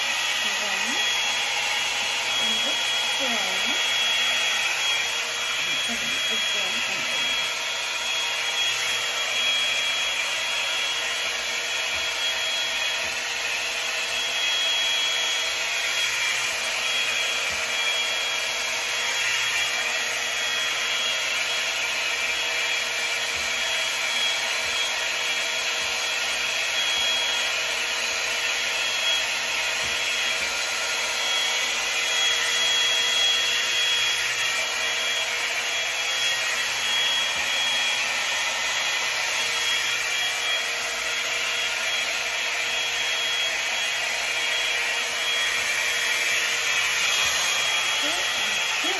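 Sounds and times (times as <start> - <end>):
hot-air brush blowing air: 0.0 - 48.9.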